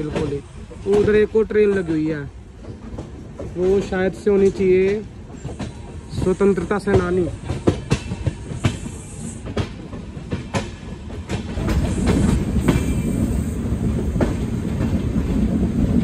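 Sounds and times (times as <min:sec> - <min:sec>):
rumble of train coaches: 0:00.0 - 0:16.0
train knocks: 0:00.0 - 0:16.0
train wheels clacking over rail joints: 0:00.0 - 0:16.0.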